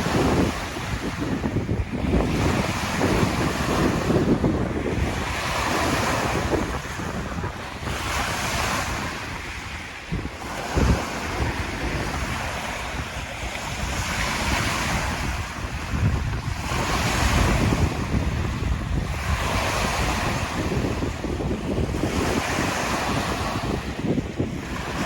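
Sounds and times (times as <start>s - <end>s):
light waves washing in: 0.0s - 25.0s
wind gusts on microphone: 0.0s - 25.0s.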